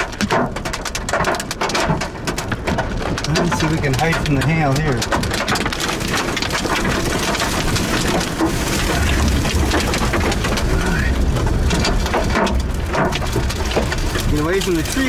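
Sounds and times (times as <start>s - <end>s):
hail and rain on car roof: 0.0s - 15.0s.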